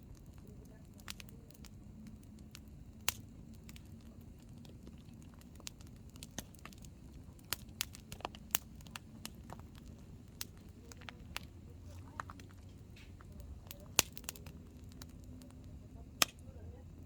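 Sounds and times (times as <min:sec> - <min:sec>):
campfire crackling: 0:00.0 - 0:17.0
low rumble of flame: 0:00.0 - 0:17.0
sharp pops of fire: 0:00.0 - 0:17.0.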